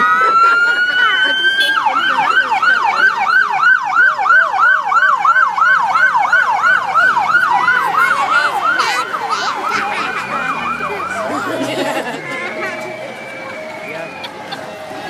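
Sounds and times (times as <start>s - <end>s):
police siren yelping: 0.0s - 15.0s.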